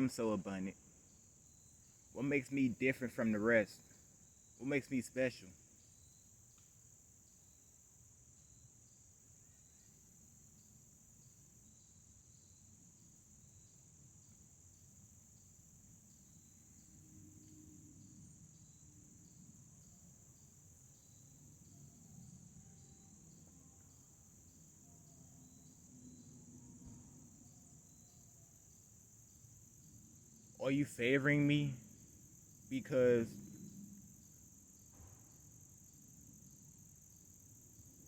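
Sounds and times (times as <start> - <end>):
insect chorus drone: 0.0 - 38.0
soft insect chirp: 0.0 - 38.0.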